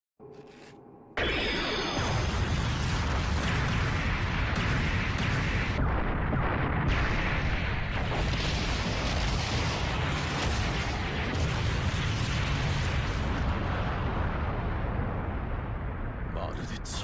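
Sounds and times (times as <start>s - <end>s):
deep rumble of explosions: 1.2s - 17.0s.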